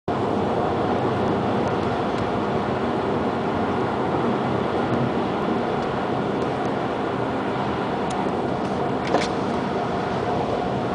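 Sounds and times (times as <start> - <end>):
car engine running: 0.1 - 10.9
tyre noise on road: 0.1 - 10.9.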